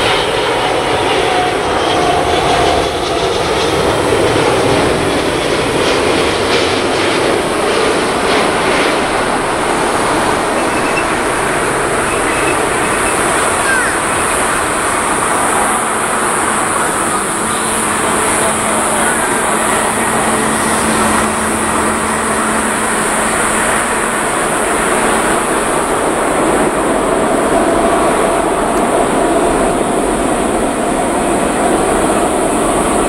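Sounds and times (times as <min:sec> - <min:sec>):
jet plane passing low overhead: 0:00.0 - 0:33.0.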